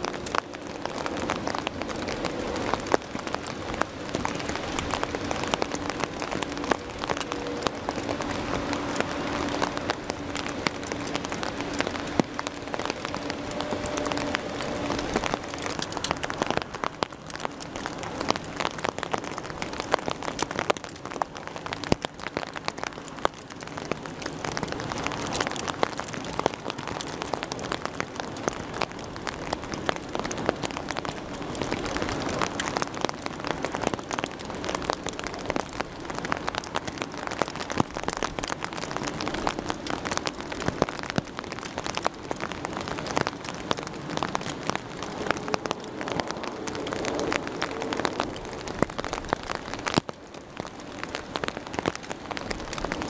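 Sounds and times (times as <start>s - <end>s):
raindrops ticking on hard surface: 0.0s - 53.0s
steady rain falling: 0.0s - 53.0s.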